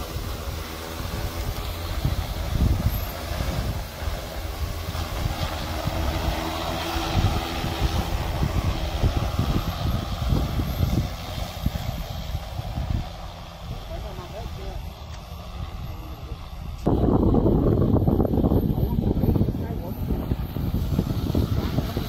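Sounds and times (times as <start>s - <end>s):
drone rotors humming: 0.0s - 22.0s
wind rumble on microphone: 0.0s - 22.0s.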